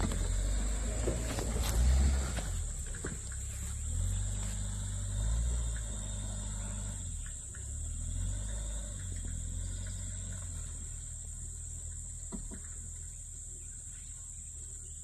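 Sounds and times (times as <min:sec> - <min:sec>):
car engine low rumble: 0:00.0 - 0:15.0
high insect drone: 0:00.0 - 0:15.0.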